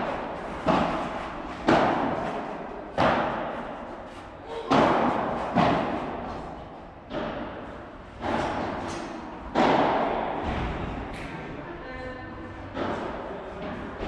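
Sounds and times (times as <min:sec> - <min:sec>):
racket hitting ball with echo: 0:00.0 - 0:11.3, 0:12.7 - 0:14.0.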